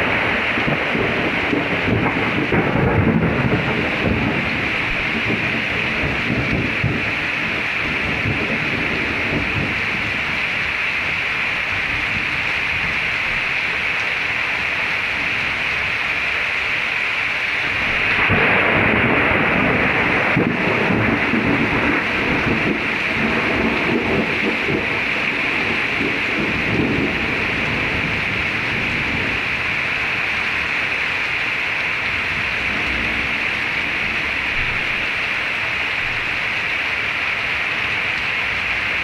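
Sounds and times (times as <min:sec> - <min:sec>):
thunder rumbling: 0:00.0 - 0:13.0, 0:17.6 - 0:36.6
rain falling steadily: 0:00.0 - 0:39.0.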